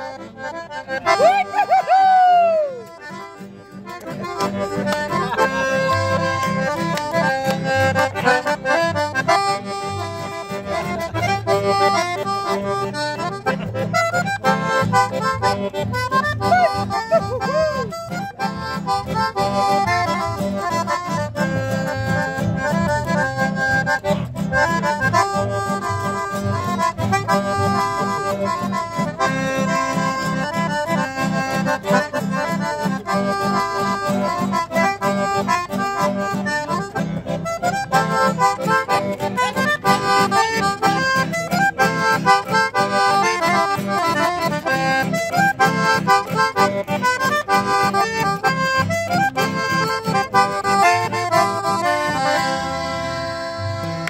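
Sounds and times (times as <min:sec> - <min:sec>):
strummed acoustic guitar: 0:00.0 - 0:01.8, 0:02.7 - 0:54.0
button accordion melody: 0:00.0 - 0:54.0.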